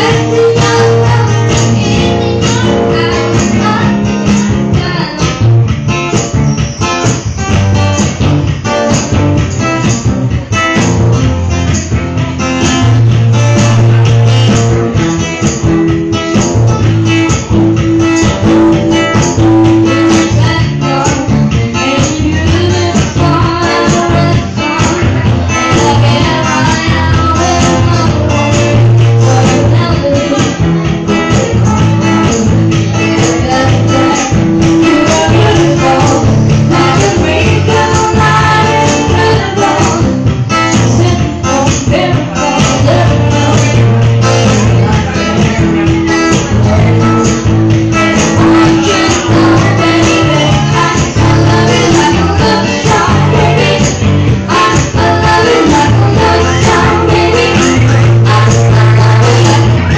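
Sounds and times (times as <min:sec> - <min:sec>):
person singing: 0:00.0 - 0:07.9, 0:11.8 - 0:59.9
acoustic guitars strummed: 0:00.0 - 0:59.9
hand percussion beat: 0:00.0 - 0:59.9.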